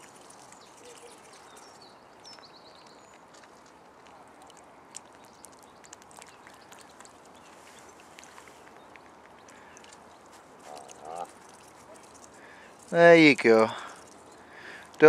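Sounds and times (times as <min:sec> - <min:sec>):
goose bill nibbling clicks: 0:00.0 - 0:15.0
small bird chirping: 0:00.0 - 0:15.0.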